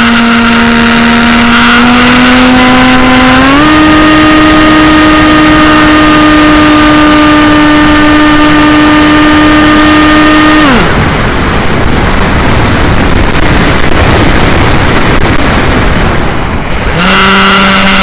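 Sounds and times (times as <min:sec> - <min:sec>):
electric motor and propeller whine: 0:00.0 - 0:18.0
wind noise: 0:00.0 - 0:18.0.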